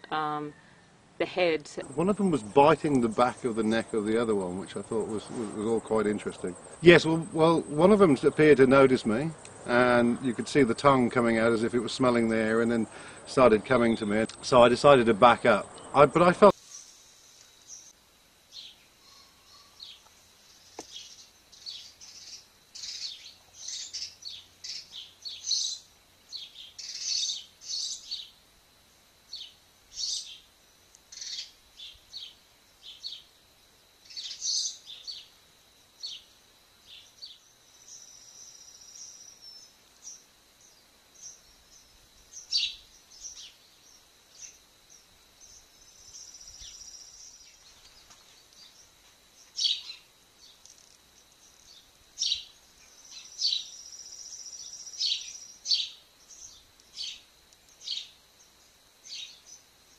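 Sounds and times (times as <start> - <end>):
birds chirping: 0.0 - 17.0, 17.6 - 28.4, 29.3 - 33.3, 34.1 - 35.4, 36.0 - 59.7
faint high whine: 0.0 - 59.9.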